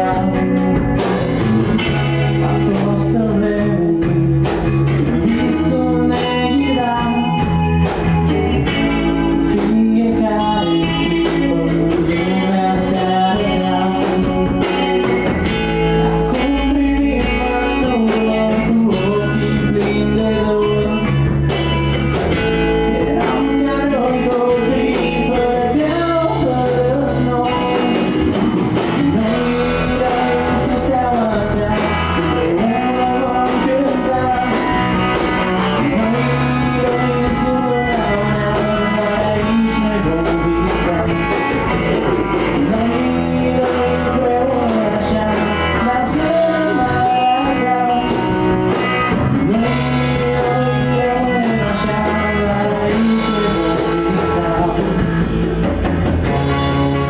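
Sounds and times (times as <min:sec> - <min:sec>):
rock band with male vocals: 0:00.0 - 0:57.0.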